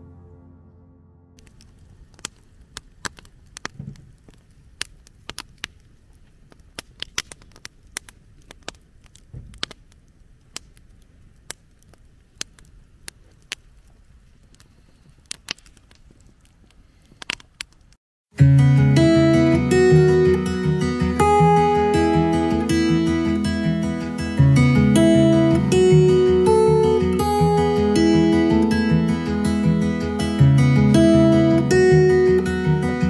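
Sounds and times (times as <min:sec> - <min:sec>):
campfire crackling and popping: 0:01.4 - 0:18.0, 0:18.8 - 0:33.0.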